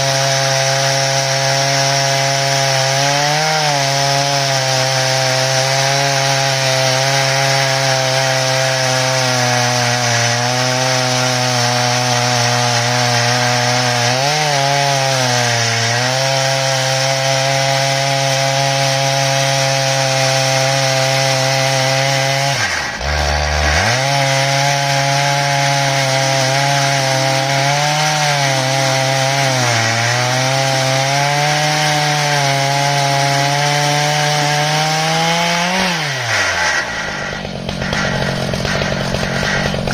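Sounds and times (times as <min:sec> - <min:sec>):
chainsaw cutting under load: 0:00.0 - 0:39.9.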